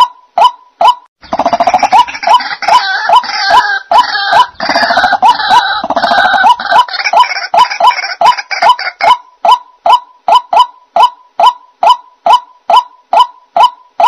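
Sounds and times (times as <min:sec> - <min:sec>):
waterhen croaking calls: 0:00.0 - 0:14.0.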